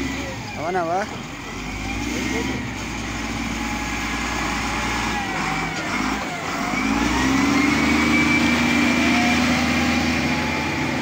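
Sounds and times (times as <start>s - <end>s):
wheel loader diesel engine revving: 0.0s - 11.0s.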